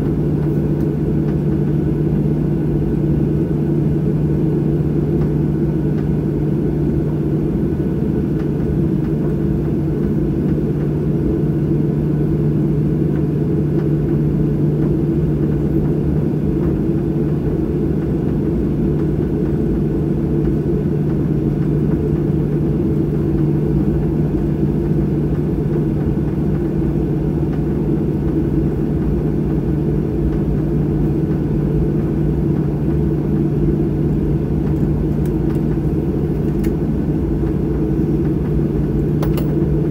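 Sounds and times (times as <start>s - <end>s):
jet engines idling in cabin: 0.0s - 39.9s.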